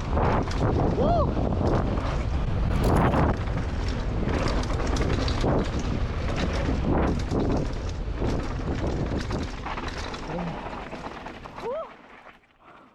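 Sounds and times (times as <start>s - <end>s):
wind buffeting microphone: 0.0s - 11.8s
bike rattles and knocks: 0.1s - 12.4s
low rumble: 0.5s - 11.6s.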